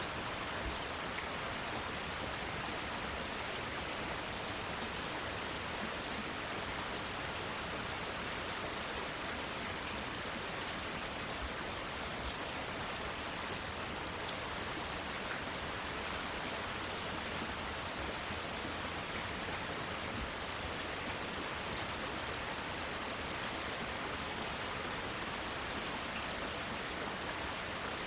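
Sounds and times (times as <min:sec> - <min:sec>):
rain falling on foliage: 0:00.0 - 0:28.0.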